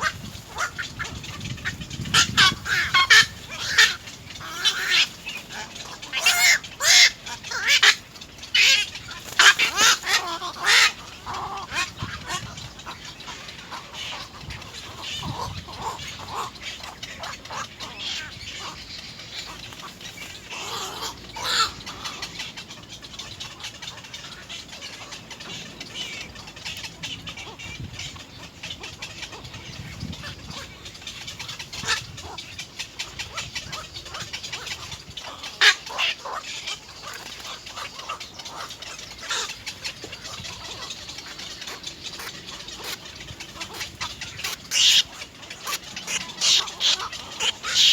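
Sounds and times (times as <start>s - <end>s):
egret chicks calling: 0.0s - 47.9s
louder chick calls: 0.0s - 47.9s.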